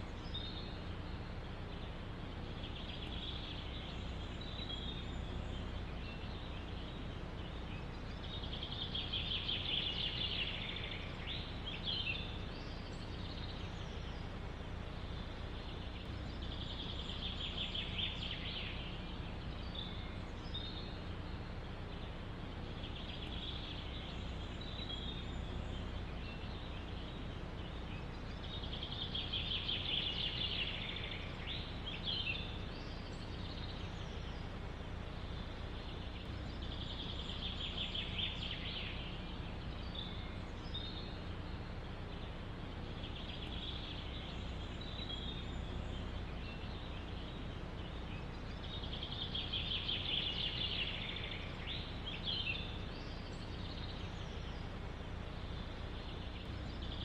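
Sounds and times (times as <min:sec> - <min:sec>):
low background rumble: 0:00.0 - 0:57.0
songbird trilling: 0:00.0 - 0:57.0.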